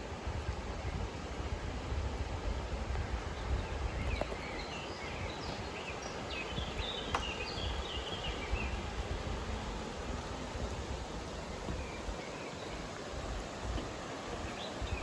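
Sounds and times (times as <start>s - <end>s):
steady outdoor rumble: 0.0s - 15.0s.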